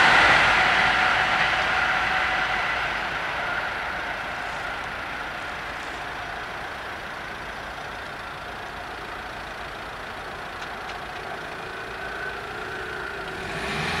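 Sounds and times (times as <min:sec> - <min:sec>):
car engines idling: 0:00.0 - 0:14.0
car moving off: 0:00.0 - 0:14.0
traffic hiss: 0:00.0 - 0:14.0.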